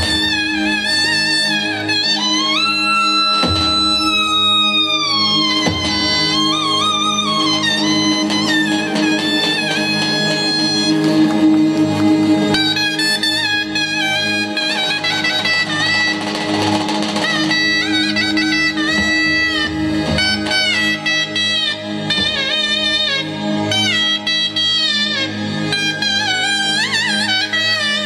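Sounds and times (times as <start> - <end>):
reedy wind instrument melody: 0.0 - 28.0.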